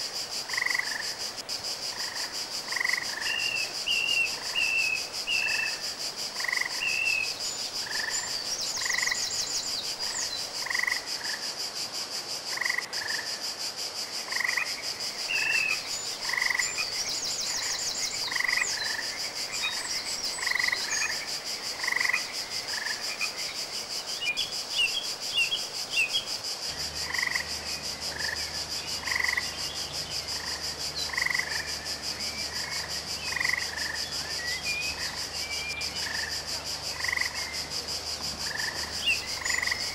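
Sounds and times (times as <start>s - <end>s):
frogs croaking: 0.0s - 39.9s
steady high hiss: 0.0s - 39.9s.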